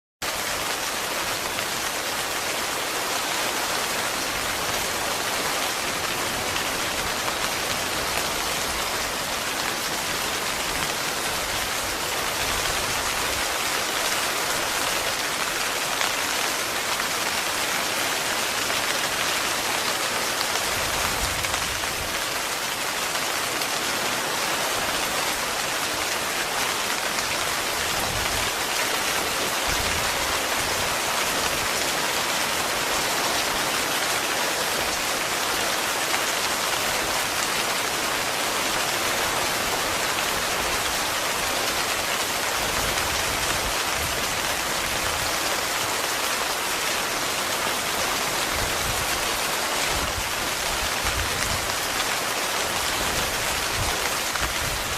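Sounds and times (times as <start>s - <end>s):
heavy rain on a tent: 0.2s - 54.9s.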